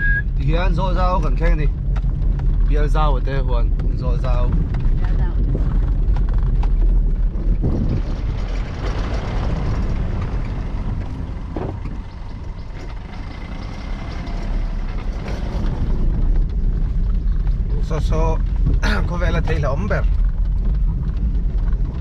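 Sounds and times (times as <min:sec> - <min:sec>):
car engine and tyre rumble: 0:00.0 - 0:22.0
car knocking over bumps: 0:00.0 - 0:22.0.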